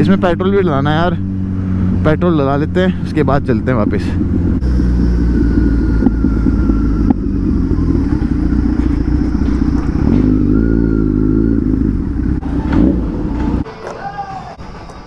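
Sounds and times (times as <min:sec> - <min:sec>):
motorcycle engine at low revs: 0:00.0 - 0:13.6.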